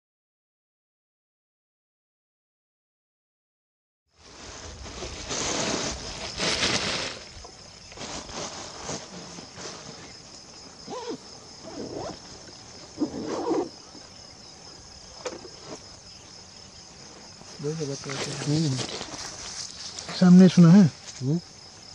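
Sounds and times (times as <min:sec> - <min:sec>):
insects chirping: 0:04.2 - 0:21.9.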